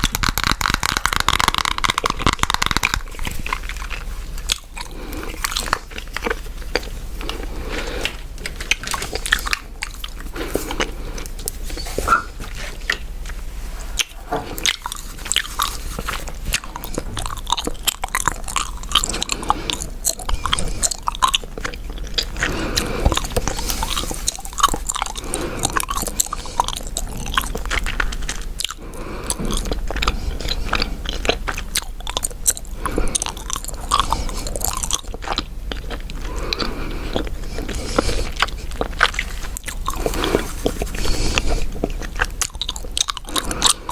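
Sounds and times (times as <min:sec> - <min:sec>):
gum chewing mouth smacks: 0:00.0 - 0:13.4, 0:14.0 - 0:43.9.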